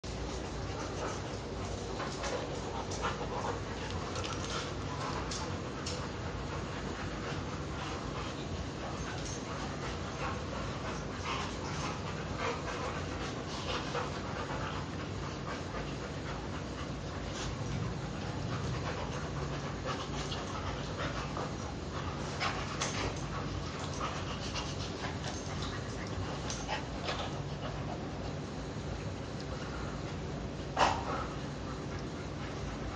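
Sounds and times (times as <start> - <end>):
dogs panting: 0.1 - 32.9.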